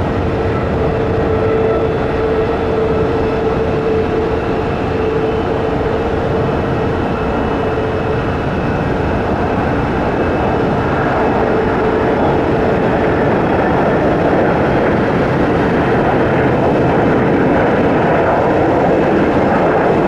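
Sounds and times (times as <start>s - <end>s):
steady droning note: 0.0s - 18.8s
jet engine roar: 0.0s - 20.0s.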